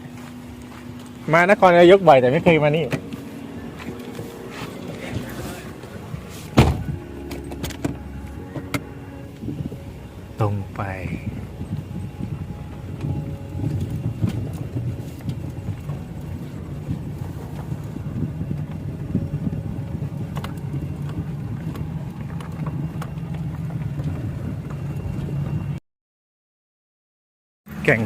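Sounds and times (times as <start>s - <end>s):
car driving rumble: 0.0s - 25.8s.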